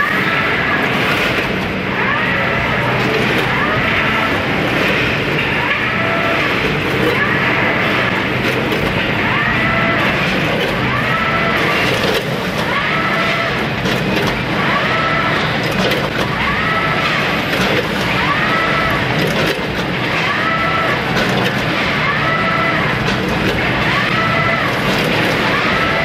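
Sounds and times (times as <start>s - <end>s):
weighing machine running: 0.0s - 26.0s.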